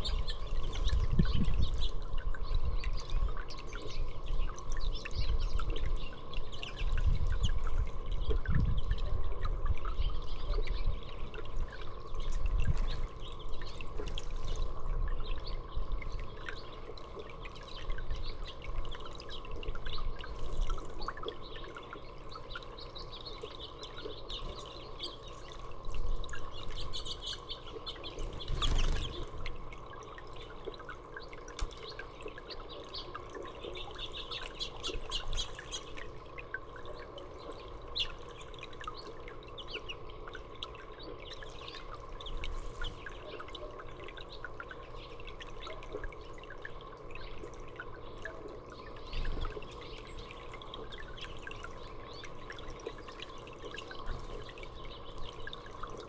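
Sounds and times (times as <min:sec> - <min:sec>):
small birds chirping: 0:00.0 - 0:09.0, 0:09.8 - 0:56.0
water dripping and trickling: 0:00.0 - 0:56.0.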